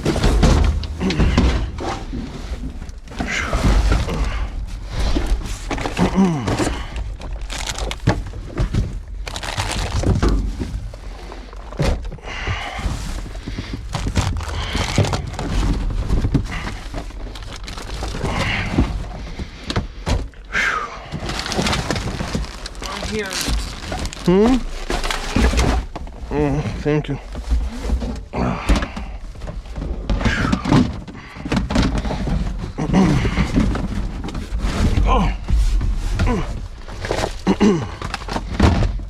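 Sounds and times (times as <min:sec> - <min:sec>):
bags and boxes rustling: 0:00.0 - 0:39.0
items knocking and clunking: 0:00.0 - 0:39.0.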